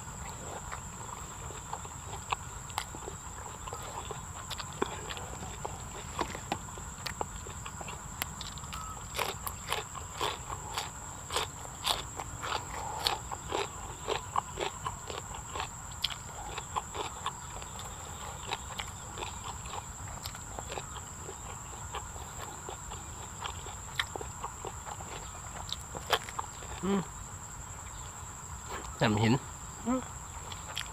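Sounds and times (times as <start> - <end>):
wet crunchy chewing: 0.0 - 28.0, 30.2 - 30.9
steady high-pitched whine: 0.0 - 30.9.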